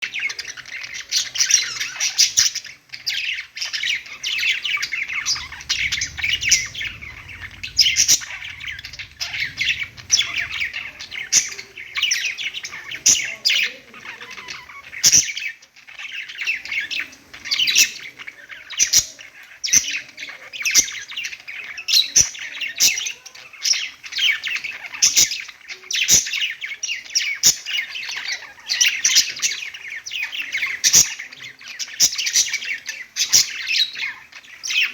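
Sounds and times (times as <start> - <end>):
budgies chattering and warbling: 0.0 - 34.9.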